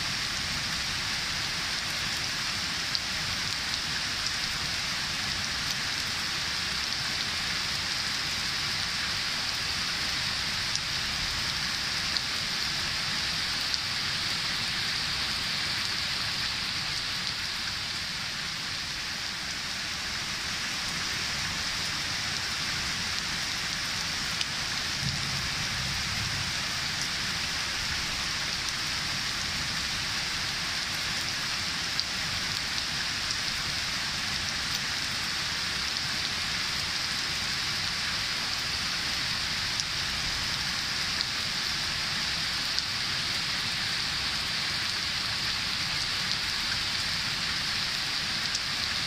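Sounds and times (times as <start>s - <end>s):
heavy rain into a puddle: 0.0s - 49.0s.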